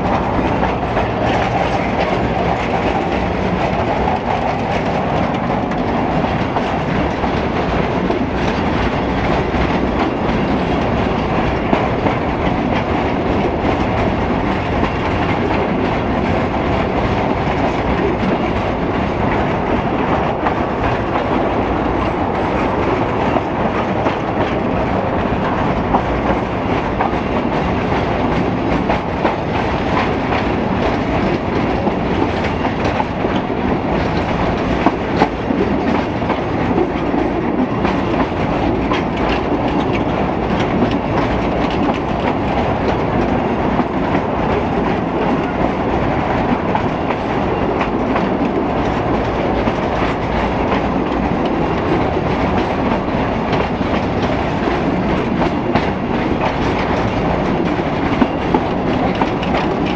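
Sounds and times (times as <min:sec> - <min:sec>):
clickety-clack of rails: 0:00.0 - 0:59.9
rumble of train wheels: 0:00.0 - 0:59.9.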